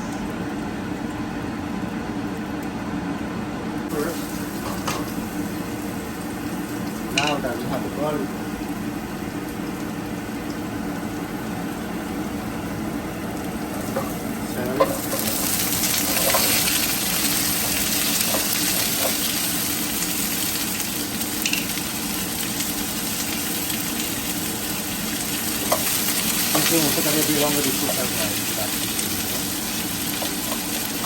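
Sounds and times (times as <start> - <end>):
food frying in hot oil: 3.8 - 31.0.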